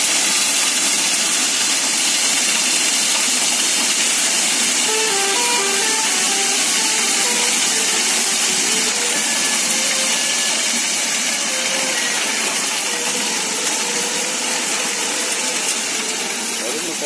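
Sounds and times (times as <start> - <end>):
concrete truck running: 0.9 - 17.0.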